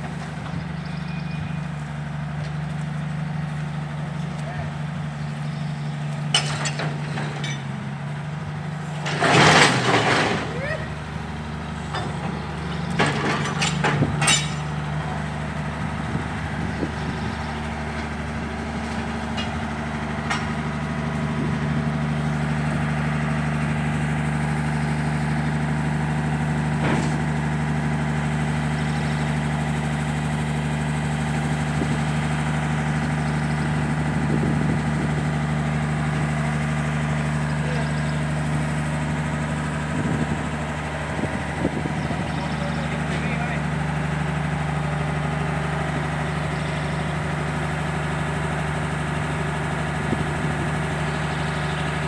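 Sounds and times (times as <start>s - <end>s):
motor humming: 0.0s - 52.0s.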